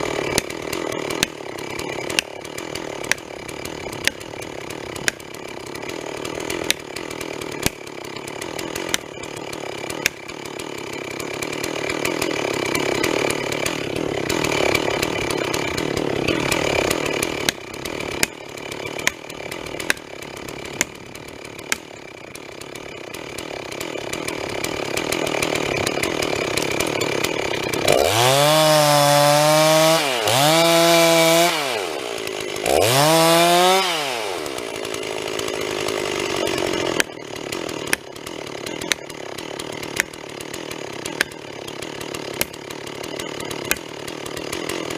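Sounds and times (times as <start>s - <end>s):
chainsaw cutting and revving: 0.0s - 44.9s.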